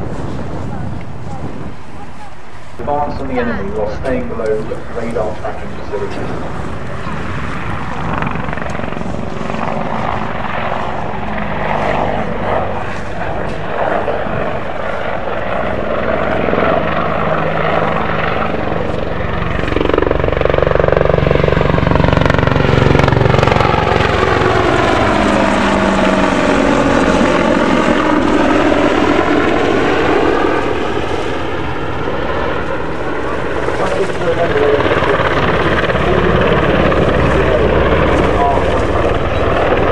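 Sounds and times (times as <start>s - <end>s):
helicopter flying: 0.0s - 39.9s.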